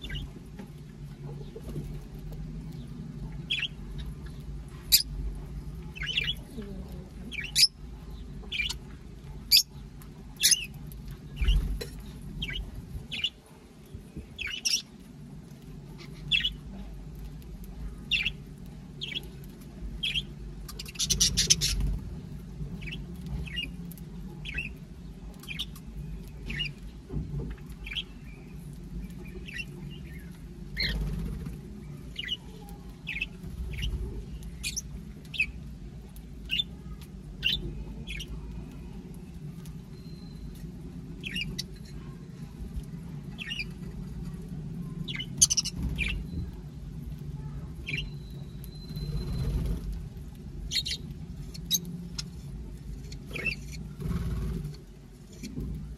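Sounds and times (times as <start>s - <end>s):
birds chirping: 0.0s - 55.7s.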